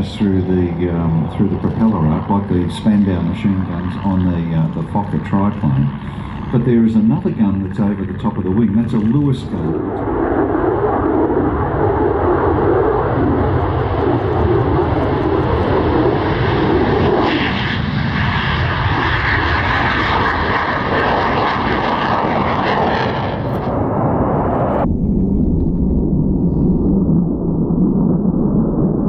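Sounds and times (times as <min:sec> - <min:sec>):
jet roar: 0:00.0 - 0:29.0.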